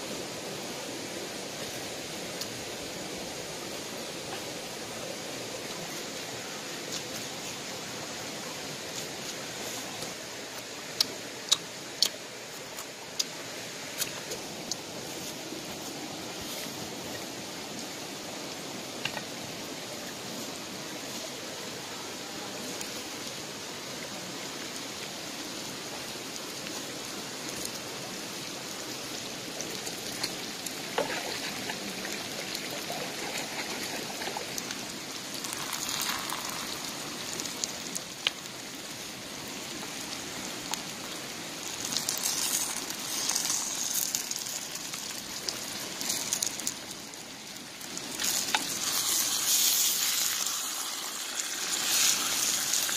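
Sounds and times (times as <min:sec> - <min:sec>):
stream flowing: 0:00.0 - 0:52.9.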